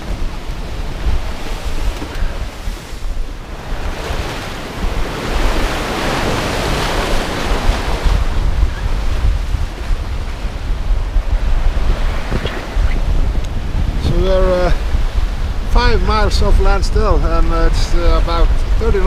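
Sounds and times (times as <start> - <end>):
waves rushing around boat: 0.0 - 19.0
wind buffeting microphone: 0.0 - 19.0.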